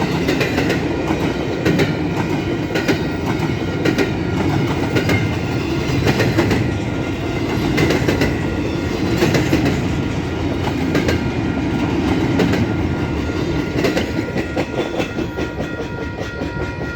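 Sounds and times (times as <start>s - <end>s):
freight train wheels clacking on rails: 0.0s - 16.9s.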